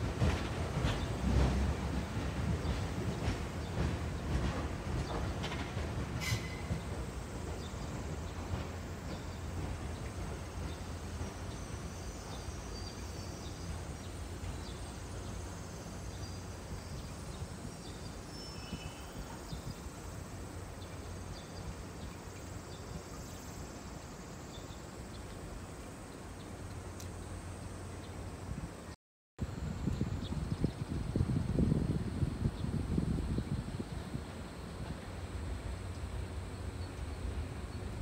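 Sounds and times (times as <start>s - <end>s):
distant electric trains rumbling: 0.0s - 38.0s.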